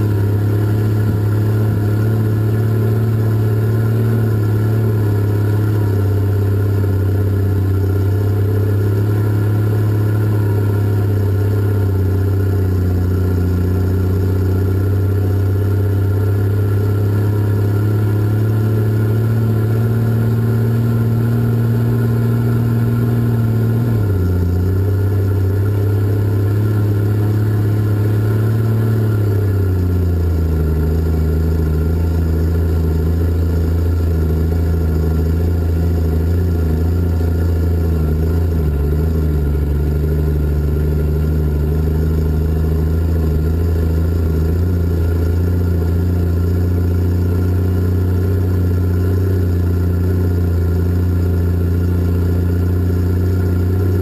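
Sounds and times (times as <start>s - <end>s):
diesel engines running hard: 0.0s - 54.0s.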